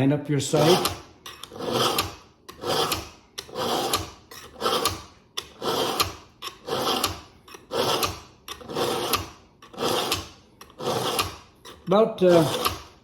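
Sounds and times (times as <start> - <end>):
knife scraping through sharpener: 0.6 - 13.0.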